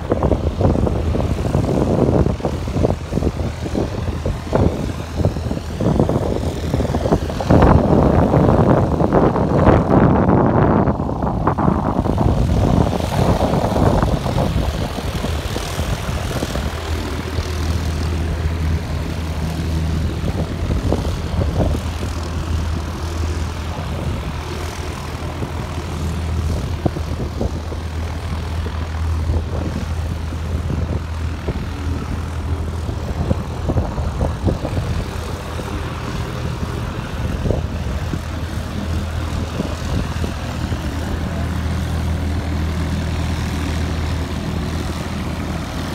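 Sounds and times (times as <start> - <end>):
propeller aircraft engine: 0.0 - 45.9.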